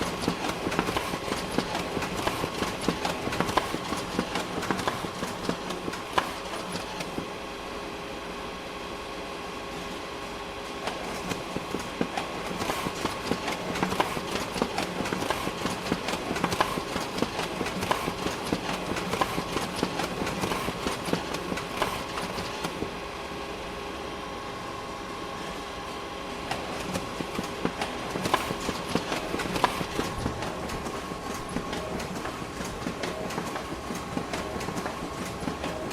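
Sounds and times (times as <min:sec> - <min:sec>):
photocopier running: 0:00.0 - 0:08.6, 0:09.4 - 0:35.9.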